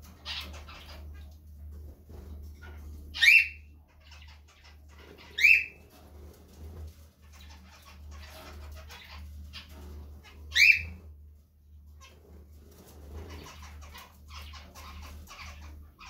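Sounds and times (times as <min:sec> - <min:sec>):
bird rustling and scratching: 0:00.0 - 0:03.2, 0:03.9 - 0:16.0.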